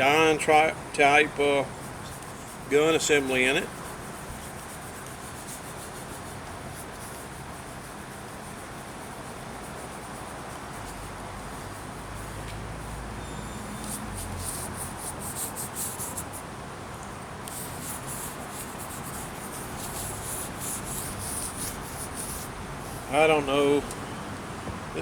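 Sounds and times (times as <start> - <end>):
steady background hiss: 0.0 - 25.0
scratchy rubbing on glass: 1.8 - 16.4, 17.5 - 23.3.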